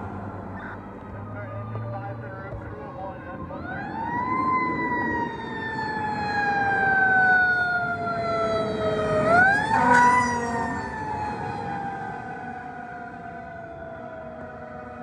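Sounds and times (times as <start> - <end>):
mechanical siren wailing: 0.7 - 15.0.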